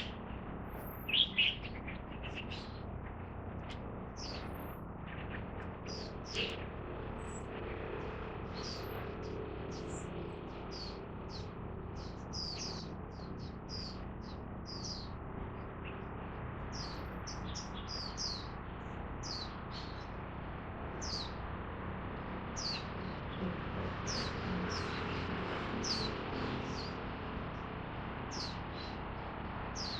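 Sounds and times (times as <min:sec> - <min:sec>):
birds chirping: 0:00.0 - 0:20.2, 0:20.9 - 0:21.4, 0:22.4 - 0:27.1, 0:28.3 - 0:29.0
steady background hum: 0:00.0 - 0:29.9.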